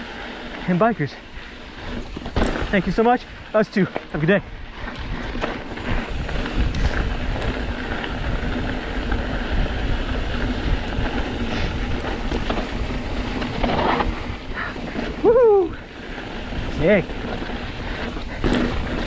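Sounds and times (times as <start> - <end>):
bike rattling over rocks: 0.0 - 15.2, 16.0 - 19.0.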